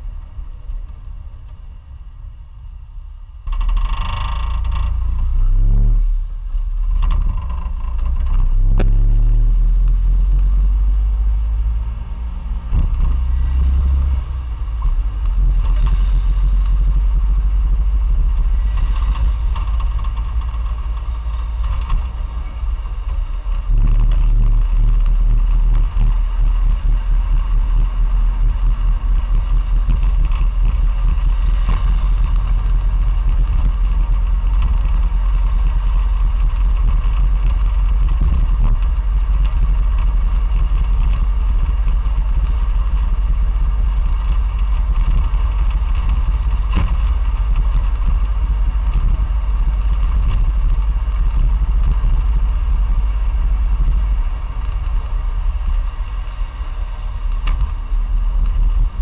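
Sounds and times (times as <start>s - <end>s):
car engine revving and running: 0.0s - 59.0s.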